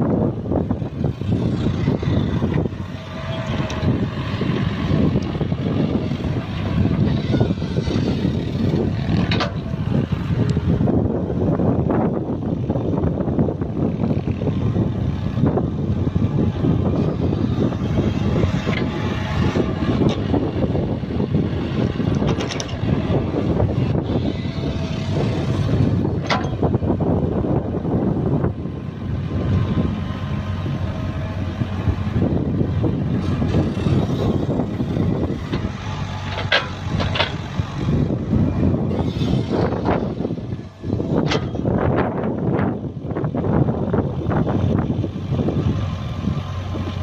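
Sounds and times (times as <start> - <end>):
excavator diesel engine running: 0.0 - 47.0
hydraulic arm digging: 0.2 - 11.0, 13.8 - 28.6, 29.2 - 42.7.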